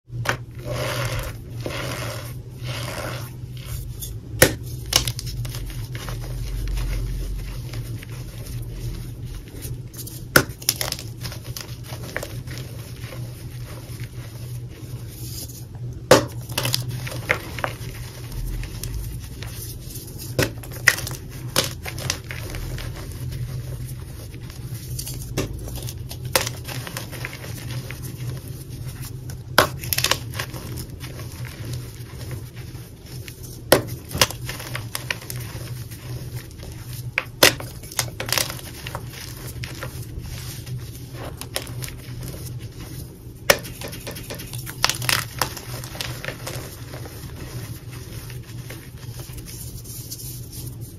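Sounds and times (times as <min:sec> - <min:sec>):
chalk crunching and cracking: 0:00.1 - 0:50.9
powder crumbling and rubbing: 0:00.1 - 0:50.9.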